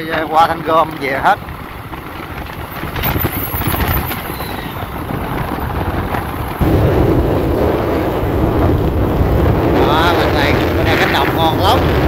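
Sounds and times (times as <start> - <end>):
vehicle rumbling along road: 0.0 - 12.0
wind buffeting microphone: 0.0 - 12.0.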